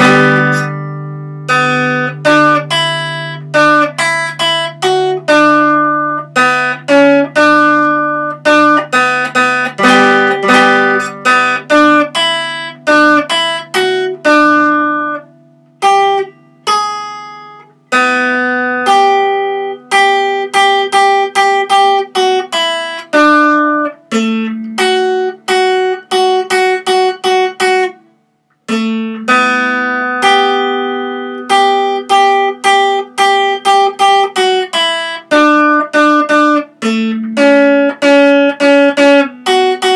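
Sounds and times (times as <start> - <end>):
acoustic guitar picked: 0.0 - 39.9.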